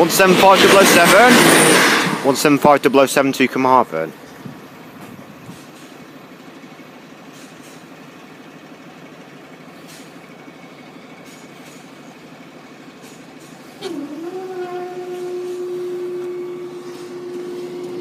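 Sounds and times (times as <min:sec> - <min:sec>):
diesel train rumbling: 0:00.0 - 0:18.0.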